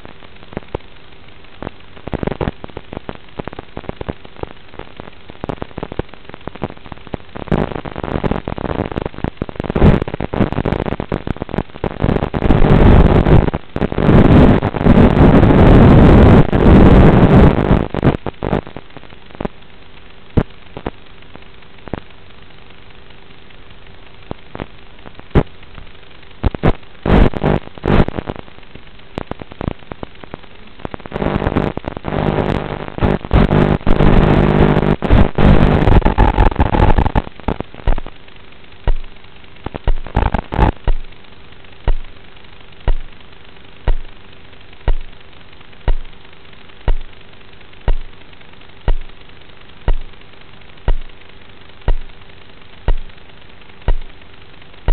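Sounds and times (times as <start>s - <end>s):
static crackles and pops: 0.0s - 54.9s.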